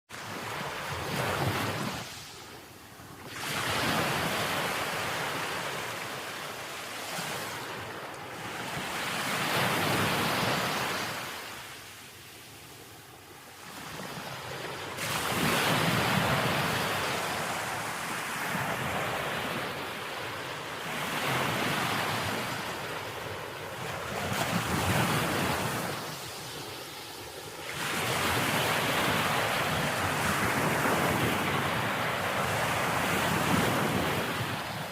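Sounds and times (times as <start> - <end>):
ocean waves breaking: 0.1 - 34.9.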